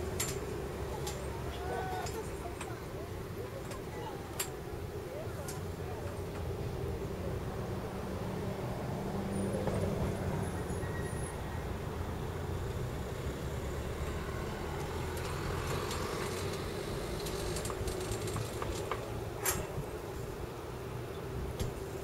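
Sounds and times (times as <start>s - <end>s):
distant engines rumbling: 0.0s - 22.0s.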